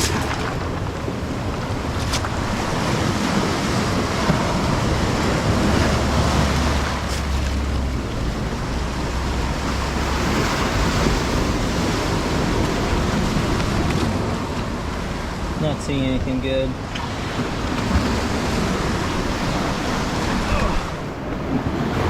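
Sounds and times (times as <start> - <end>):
surf washing onto beach: 0.0 - 22.0
wind buffeting microphone: 0.0 - 22.0.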